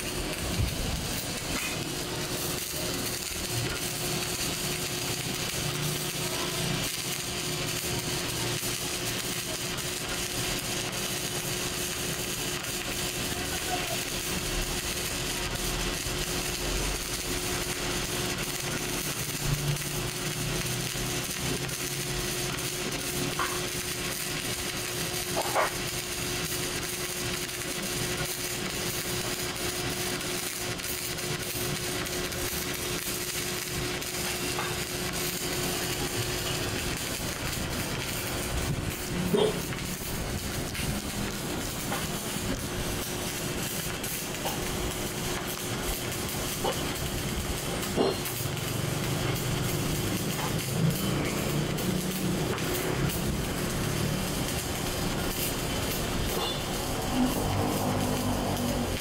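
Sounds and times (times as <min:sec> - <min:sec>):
arc welding crackling hiss: 0:00.0 - 0:59.0.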